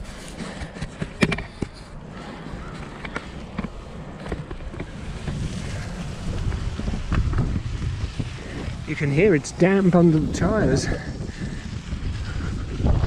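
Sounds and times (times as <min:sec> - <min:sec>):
bicycle tyres rolling on gravel: 0:00.0 - 0:13.0
wind buffeting microphone: 0:00.0 - 0:13.0.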